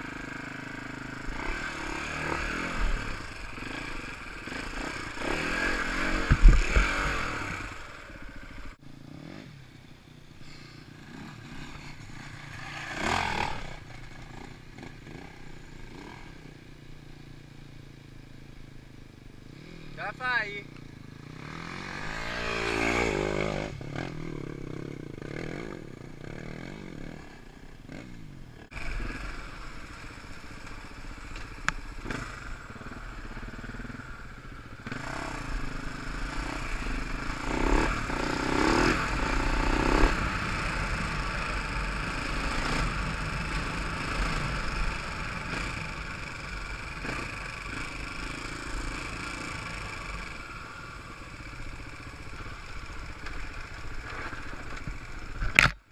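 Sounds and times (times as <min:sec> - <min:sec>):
dirt bike engine revving: 0:00.0 - 0:09.8, 0:10.4 - 0:16.6, 0:21.2 - 0:55.7.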